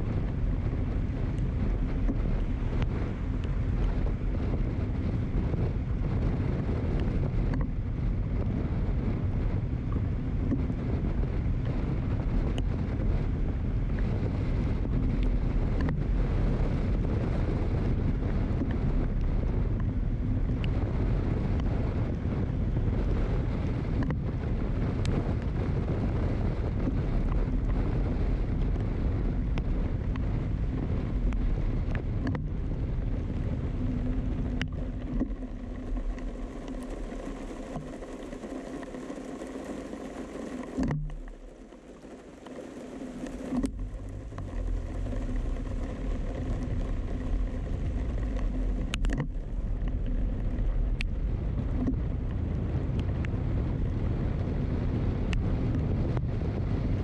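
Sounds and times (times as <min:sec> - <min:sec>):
vehicle engine and tyre noise: 0:00.0 - 0:57.0
wind rumbling on microphone: 0:00.0 - 0:57.0.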